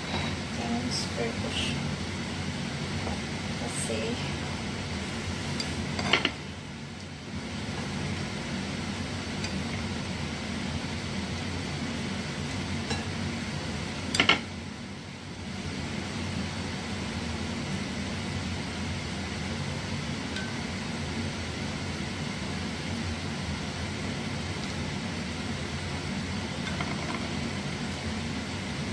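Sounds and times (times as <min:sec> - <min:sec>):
kitchen fan hum: 0:00.0 - 0:28.9.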